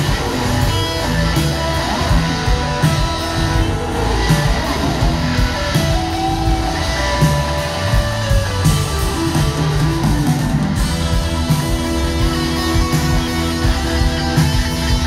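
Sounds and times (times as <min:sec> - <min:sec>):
electric guitar: 0:00.0 - 0:15.0
live blues-rock band: 0:00.0 - 0:15.0.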